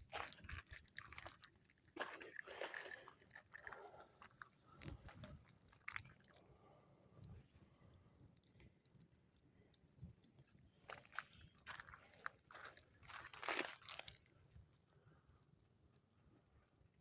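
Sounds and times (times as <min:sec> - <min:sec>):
campfire crackles and pops: 0:03.2 - 0:17.0.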